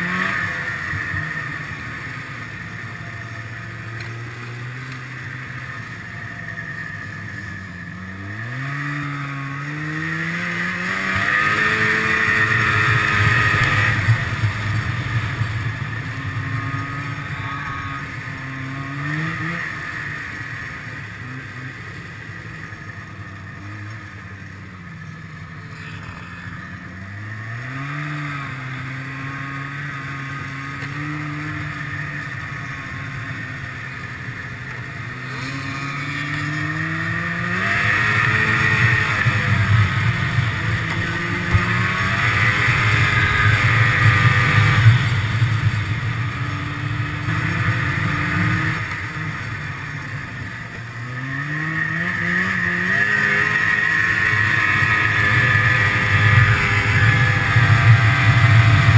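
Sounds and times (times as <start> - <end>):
snowmobile engine revving: 0.0 - 58.9.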